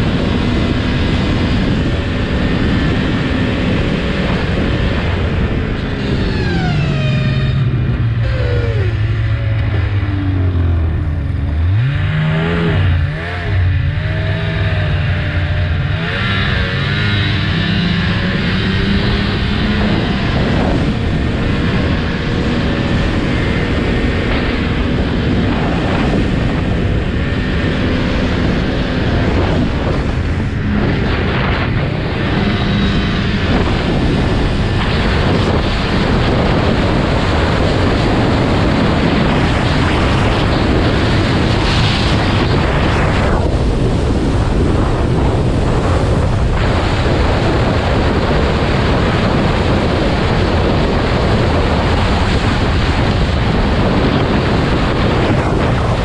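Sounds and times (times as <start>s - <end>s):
snowmobile engine drone: 0.0s - 56.0s
wind noise on microphone: 0.0s - 56.0s.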